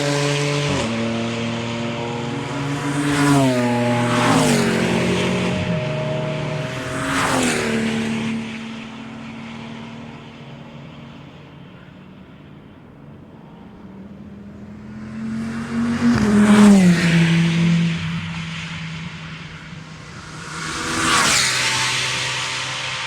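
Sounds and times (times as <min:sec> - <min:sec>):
race cars passing at speed: 0:00.0 - 0:23.0.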